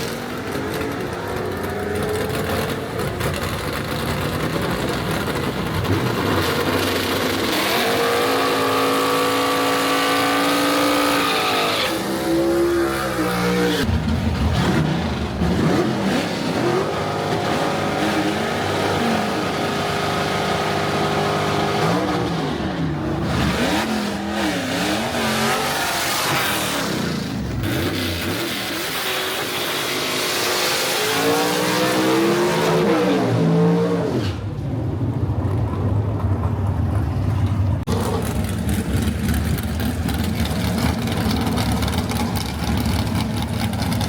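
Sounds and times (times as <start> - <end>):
race car engines revving: 0.0 - 44.0.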